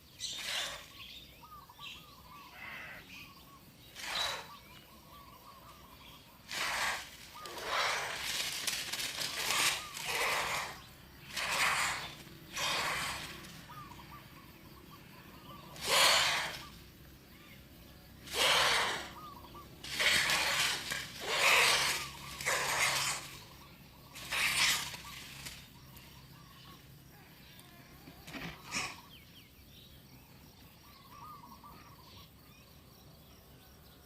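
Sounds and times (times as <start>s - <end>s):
young birds rasping hissing calls: 0.0s - 29.4s.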